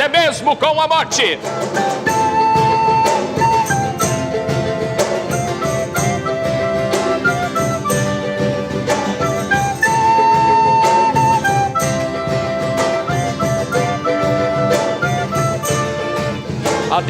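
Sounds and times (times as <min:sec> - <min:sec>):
band playing folk music: 0:00.0 - 0:17.0
steady percussion beat: 0:01.1 - 0:17.0.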